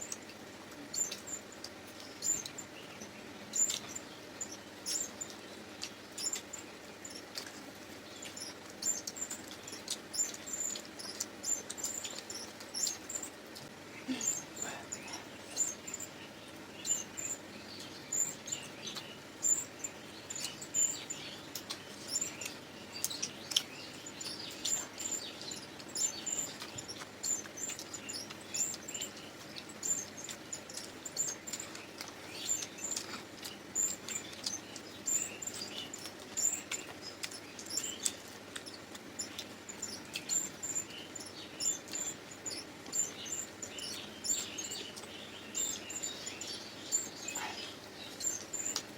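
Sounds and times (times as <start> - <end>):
people chewing and lip-smacking: 0.0 - 48.9.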